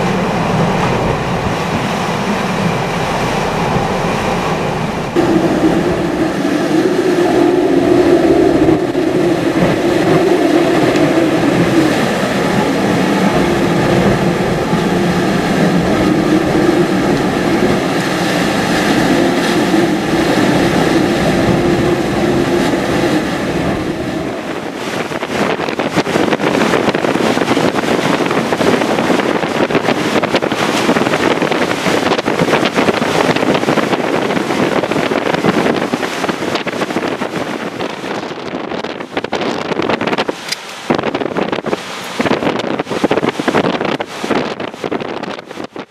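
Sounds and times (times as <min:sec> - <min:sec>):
wind buffeting microphone: 0:00.0 - 0:45.9
wind howling: 0:00.0 - 0:45.9.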